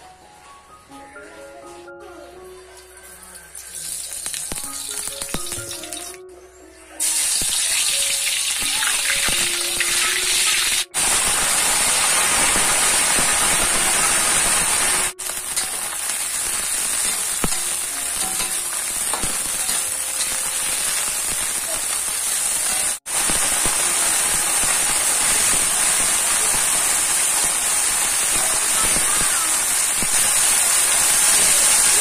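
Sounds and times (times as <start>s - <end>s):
food sizzling in a hot pan: 3.2s - 6.2s, 7.0s - 32.0s.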